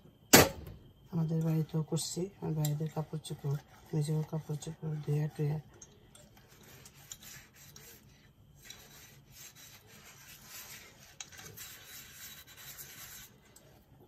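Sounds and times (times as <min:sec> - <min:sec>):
sponge scrubbing glass dish: 0:01.4 - 0:05.6, 0:06.4 - 0:13.9.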